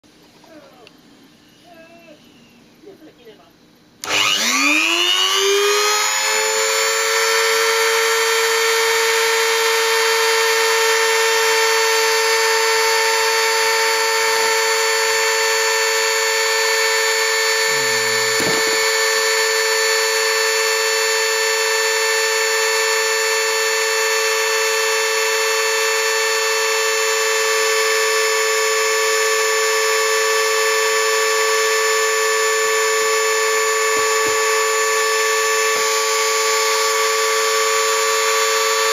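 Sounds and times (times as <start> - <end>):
grinder spindle whine: 4.0 - 38.9.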